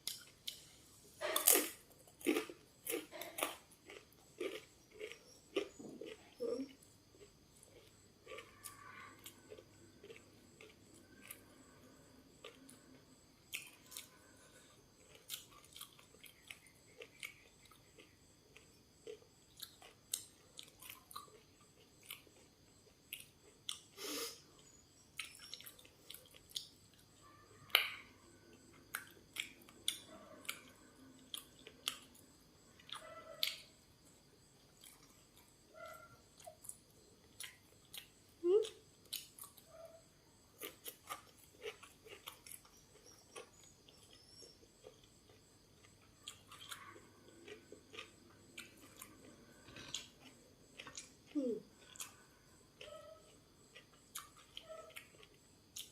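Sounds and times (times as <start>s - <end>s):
chewing crisp food: 0.0s - 55.9s.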